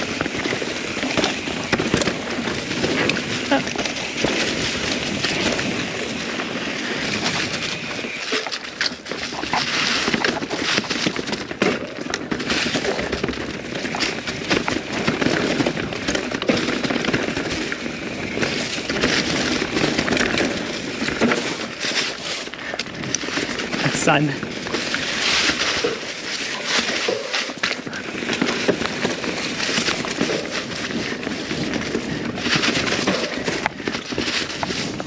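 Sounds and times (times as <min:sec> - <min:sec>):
bike knocking over bumps: 0:00.0 - 0:35.0
bike tyres on dirt trail: 0:00.0 - 0:35.0.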